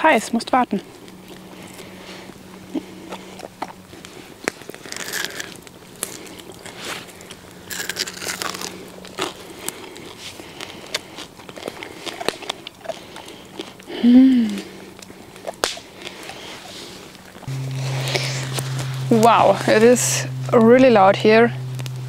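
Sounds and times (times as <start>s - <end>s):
puppy chewing and crunching: 0.3s - 21.0s
campfire crackling and popping: 0.4s - 22.0s.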